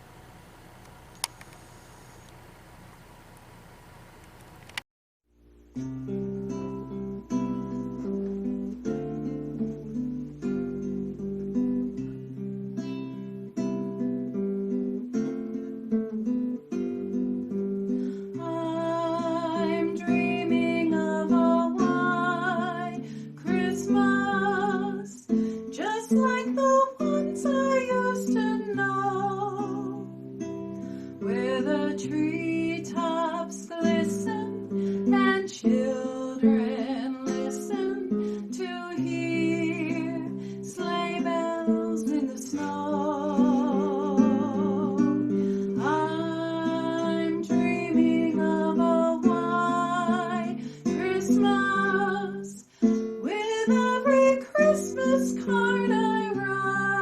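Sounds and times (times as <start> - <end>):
acoustic guitar picking chords: 5.3 - 57.0.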